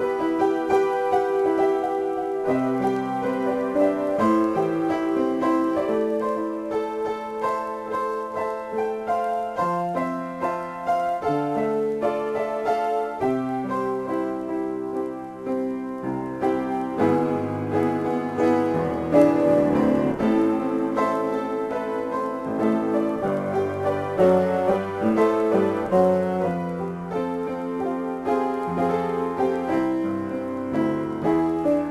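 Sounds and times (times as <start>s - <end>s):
solo piano improvisation: 0.0s - 31.9s.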